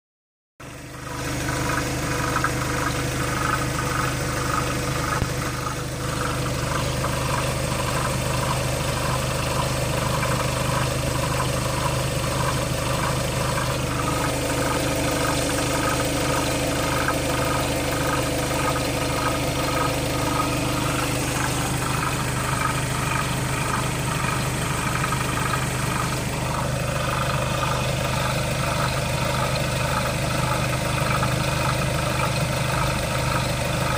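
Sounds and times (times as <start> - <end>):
diesel engine idling: 0.6 - 33.9
regular pulsing engine noise: 0.6 - 33.9.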